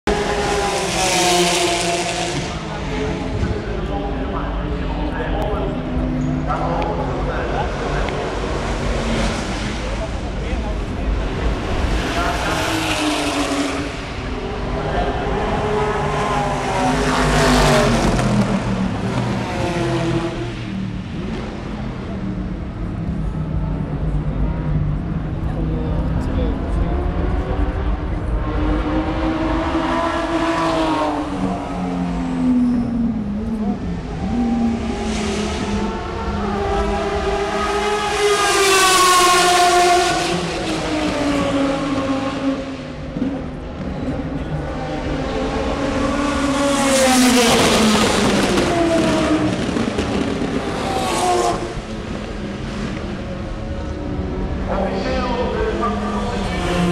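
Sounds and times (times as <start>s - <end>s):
race car engine passing: 0.1s - 56.9s.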